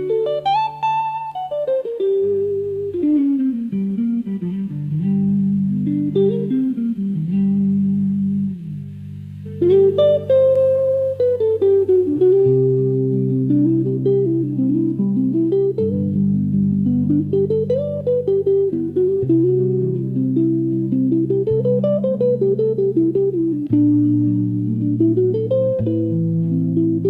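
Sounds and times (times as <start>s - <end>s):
blues guitar slow melody: 0.0s - 27.0s
bass notes: 2.0s - 27.0s.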